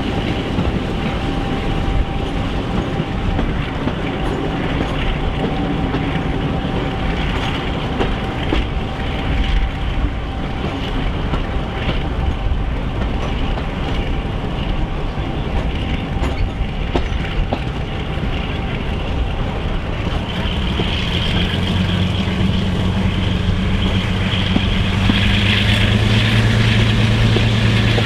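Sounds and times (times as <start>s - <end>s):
steady whine: 0.0s - 28.0s
train rumble: 0.0s - 28.0s
wheels clicking over rail joints: 0.0s - 28.0s
wind buffeting microphone: 0.0s - 28.0s.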